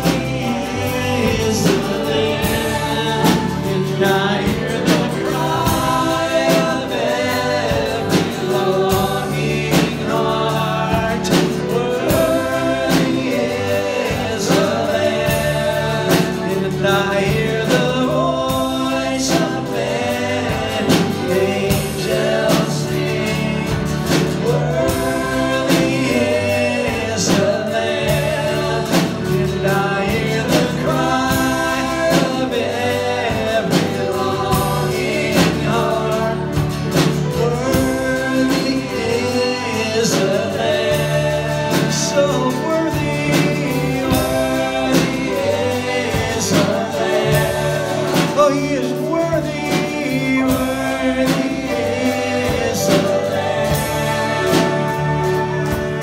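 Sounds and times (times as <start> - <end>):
instrumental accompaniment with beat: 0.0 - 56.0
voices singing worship song: 0.0 - 56.0.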